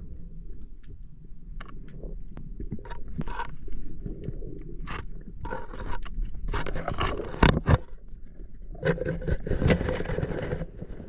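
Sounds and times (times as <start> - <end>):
underwater scraping and knocking: 0.0 - 11.0.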